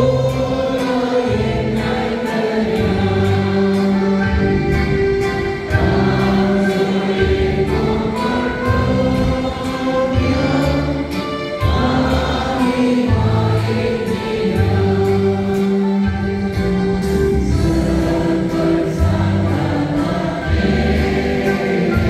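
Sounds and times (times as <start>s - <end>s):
choir singing a hymn: 0.0s - 22.0s
instrumental accompaniment: 0.0s - 22.0s.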